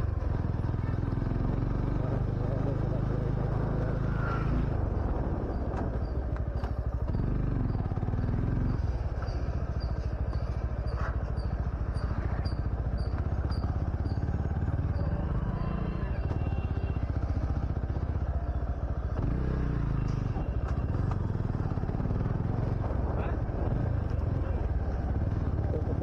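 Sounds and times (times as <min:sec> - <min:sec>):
motorcycle engine at low revs: 0:00.0 - 0:26.0.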